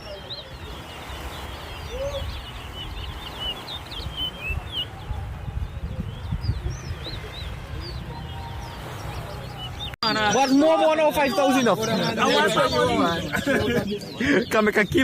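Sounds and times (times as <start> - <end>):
finches chirping and trilling: 0.0 - 13.2.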